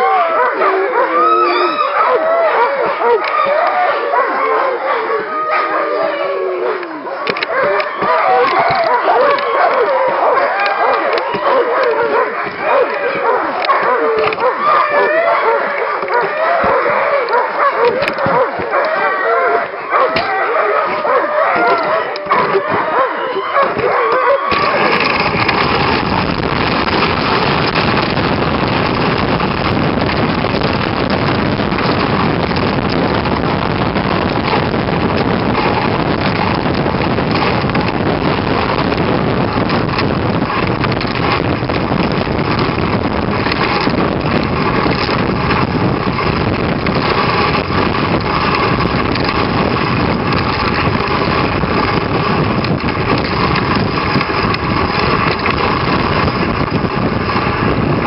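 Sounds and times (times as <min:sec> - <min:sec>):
sled gliding over snow: 0:00.0 - 0:58.0
wind buffeting microphone: 0:00.0 - 0:58.0.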